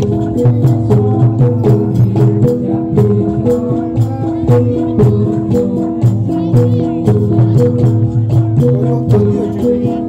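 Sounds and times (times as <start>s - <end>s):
drum and percussion beat: 0.0s - 10.0s.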